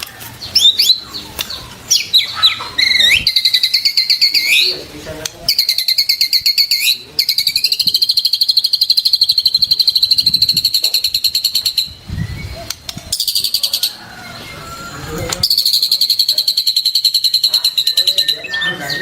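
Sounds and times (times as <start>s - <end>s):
songbird trilling: 0.0s - 19.0s.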